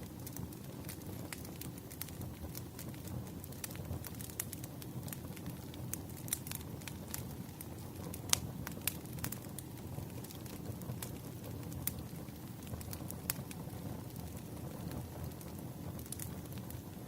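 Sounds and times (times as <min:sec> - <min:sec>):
low rumble of flames: 0:00.0 - 0:17.0.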